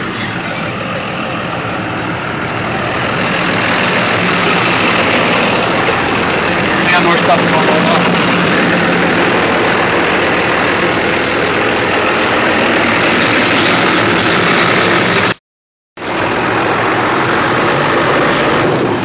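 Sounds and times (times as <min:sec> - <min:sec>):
tractor engine running: 0:00.0 - 0:15.4, 0:16.0 - 0:19.0.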